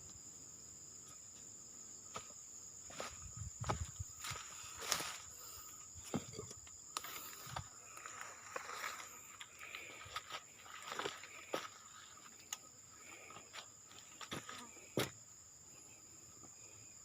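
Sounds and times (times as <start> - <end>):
high-pitched insect buzz: 0.0 - 17.0.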